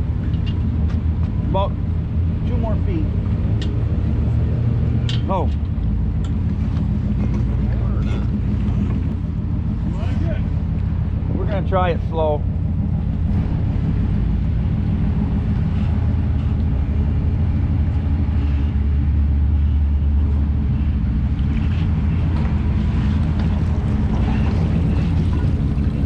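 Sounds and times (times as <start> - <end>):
truck engine drone under load: 0.0 - 26.0.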